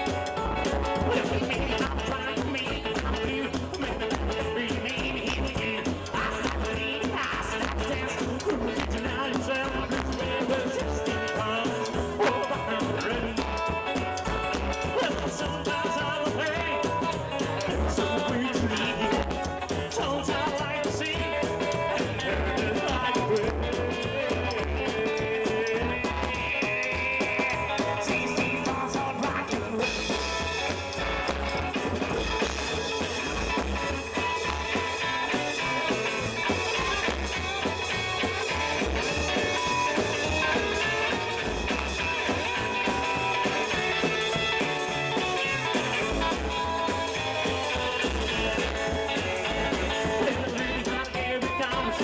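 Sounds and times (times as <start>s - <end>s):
live rockabilly band playing: 0.0s - 52.0s.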